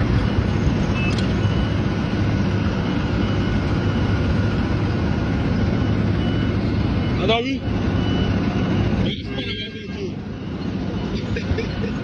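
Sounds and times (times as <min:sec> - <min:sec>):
construction vehicle engine rumbling: 0:00.0 - 0:12.0
reversing alarm beeping: 0:00.0 - 0:12.0.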